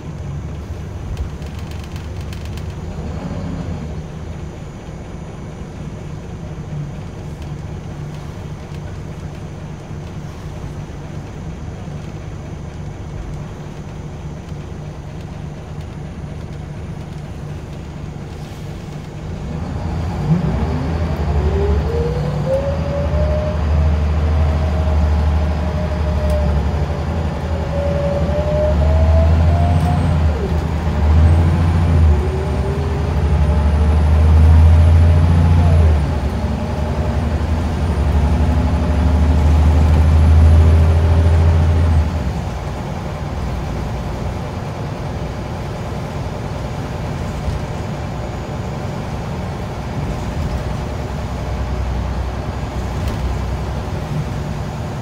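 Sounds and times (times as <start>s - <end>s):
bus engine rumble and whine: 0.0s - 55.0s.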